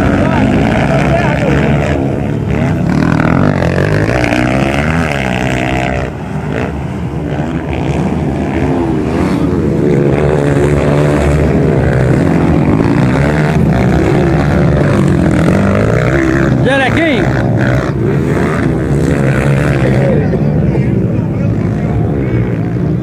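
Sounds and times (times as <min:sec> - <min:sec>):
motorcycle engines racing: 0:00.0 - 0:23.0.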